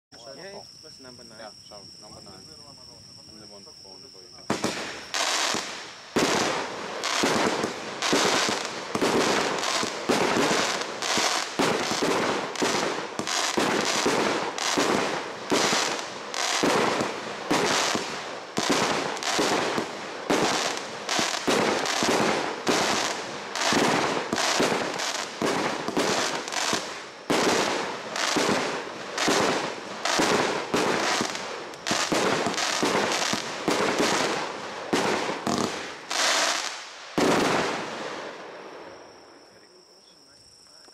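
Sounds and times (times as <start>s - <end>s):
firework bangs with crackling: 4.4s - 38.5s.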